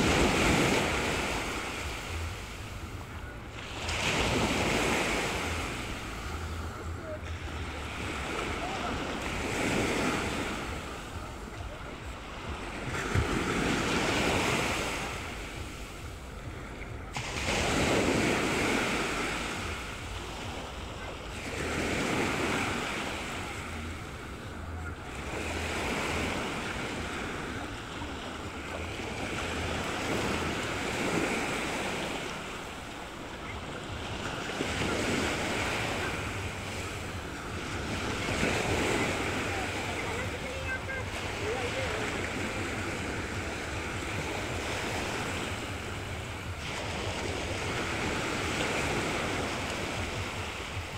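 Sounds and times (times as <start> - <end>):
small waves breaking on sand: 0.0 - 50.9.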